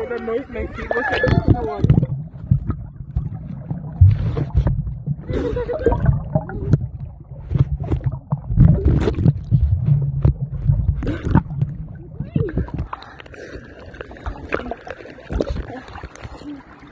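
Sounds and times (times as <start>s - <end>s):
underwater low rumble: 0.0s - 16.9s
water bubbling: 0.0s - 16.9s.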